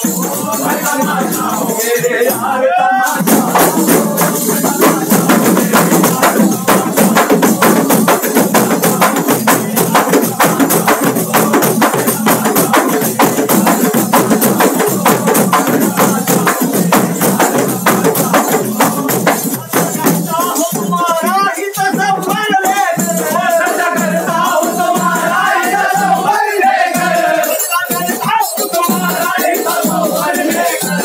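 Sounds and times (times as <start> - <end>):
frame drums beaten in rhythm: 0.0 - 31.0.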